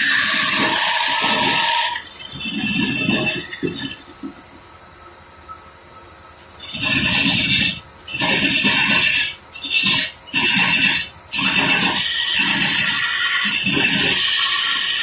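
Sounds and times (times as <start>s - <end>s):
woodworking power tool cutting: 0.0s - 4.0s, 6.6s - 15.0s.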